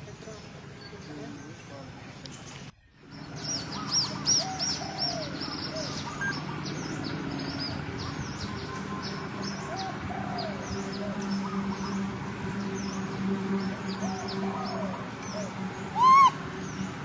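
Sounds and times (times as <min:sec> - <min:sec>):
birds chirping: 0:00.0 - 0:17.0
steady low hum: 0:01.9 - 0:17.0.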